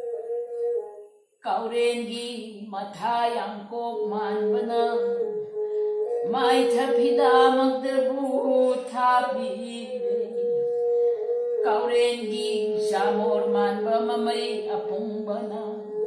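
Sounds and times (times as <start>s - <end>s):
instrument holding long notes: 0.0s - 1.1s, 4.1s - 16.0s
elderly woman singing: 1.4s - 5.5s, 6.1s - 16.0s.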